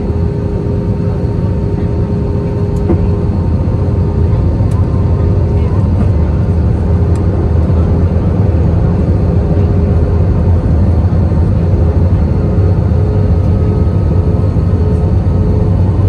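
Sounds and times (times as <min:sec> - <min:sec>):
airliner engine and airflow rumble: 0:00.0 - 0:16.0.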